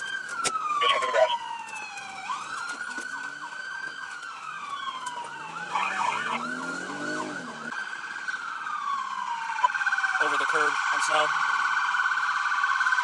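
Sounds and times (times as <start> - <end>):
police siren wailing: 0.0 - 13.0
police siren yelping: 0.0 - 13.0.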